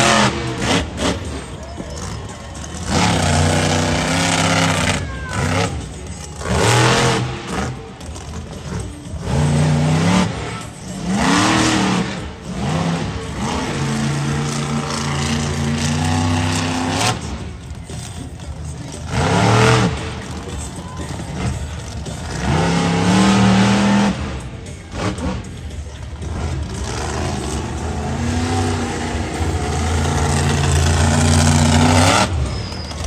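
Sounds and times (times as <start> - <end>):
truck engine revving hard: 0.0 - 33.0.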